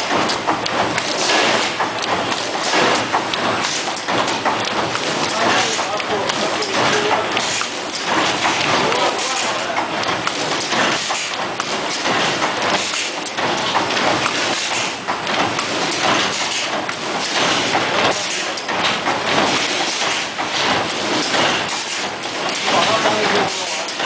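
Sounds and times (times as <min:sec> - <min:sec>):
bag making machine clatter and hiss: 0:00.0 - 0:24.0.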